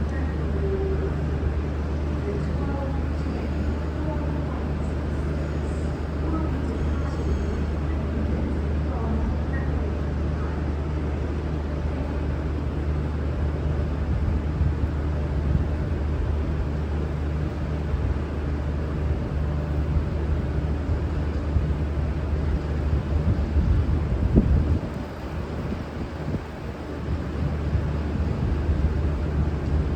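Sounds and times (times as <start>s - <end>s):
diesel train engine rumble: 0.0s - 29.9s.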